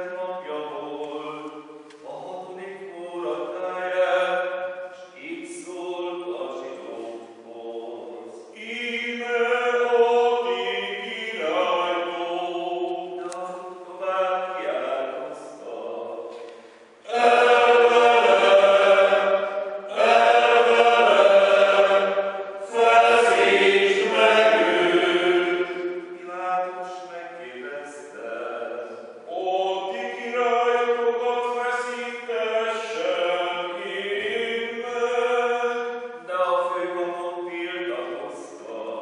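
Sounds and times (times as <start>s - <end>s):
male choir chanting: 0.0s - 16.4s, 17.0s - 39.0s.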